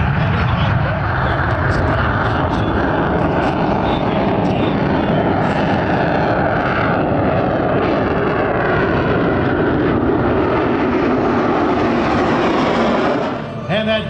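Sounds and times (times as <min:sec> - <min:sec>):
jet engine running: 0:00.0 - 0:14.0.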